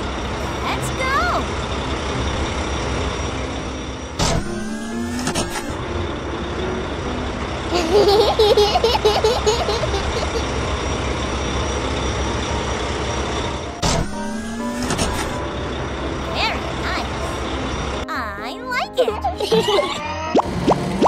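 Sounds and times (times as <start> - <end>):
cartoon truck engine: 0.0 - 21.0.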